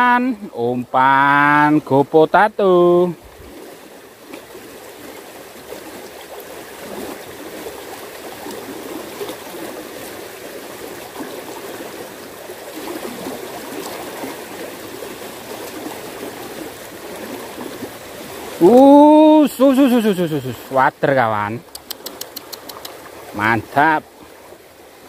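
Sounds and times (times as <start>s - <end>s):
water rushing and babbling: 0.0s - 25.0s.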